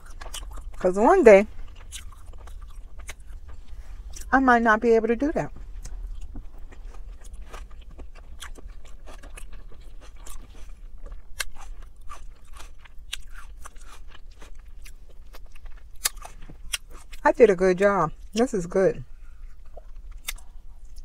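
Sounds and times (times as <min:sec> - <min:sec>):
wet chewing and mouth smacks: 0:00.0 - 0:00.8, 0:01.5 - 0:04.3, 0:05.5 - 0:17.2, 0:19.3 - 0:21.0.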